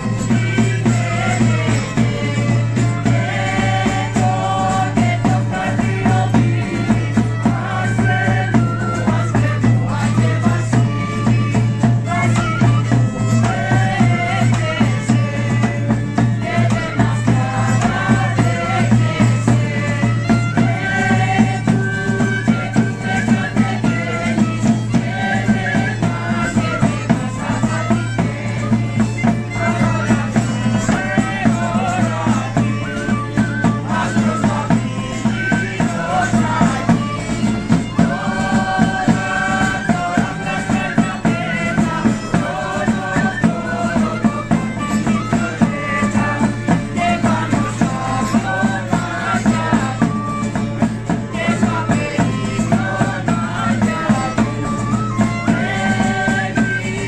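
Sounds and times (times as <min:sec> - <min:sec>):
frame drum beating: 0:00.0 - 0:57.0
group of voices singing carols: 0:00.0 - 0:57.0
violin: 0:00.0 - 0:57.0.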